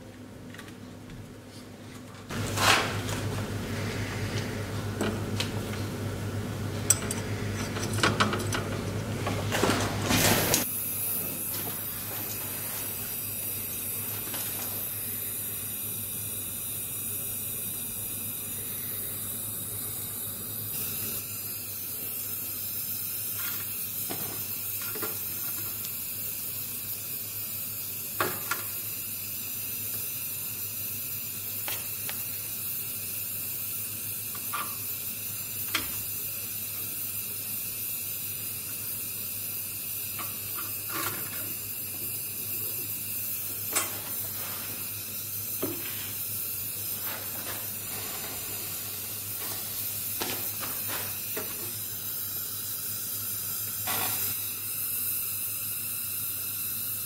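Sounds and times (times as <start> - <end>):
steady hiss: 10.2 - 57.0.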